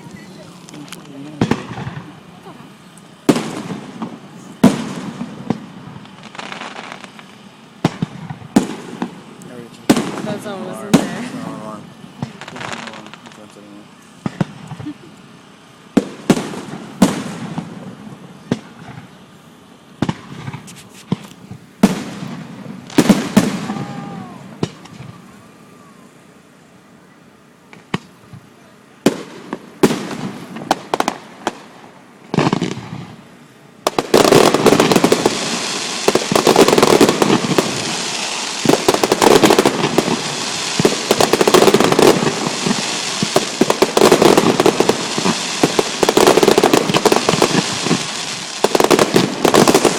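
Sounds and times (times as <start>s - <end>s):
fireworks barrage crackling: 0.0s - 49.9s.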